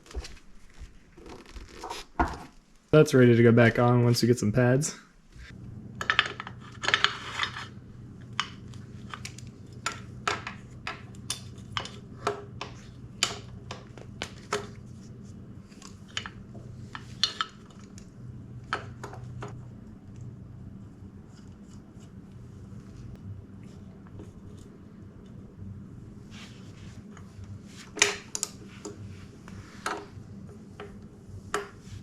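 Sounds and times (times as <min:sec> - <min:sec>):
steady low hum: 0:02.7 - 0:32.0.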